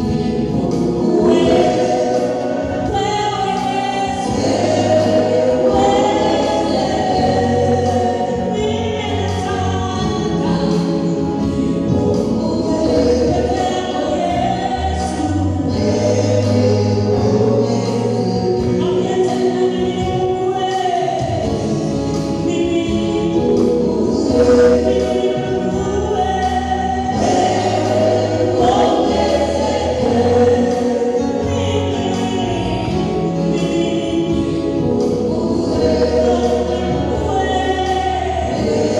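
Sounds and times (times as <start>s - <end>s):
choir singing gospel song: 0.0s - 38.9s.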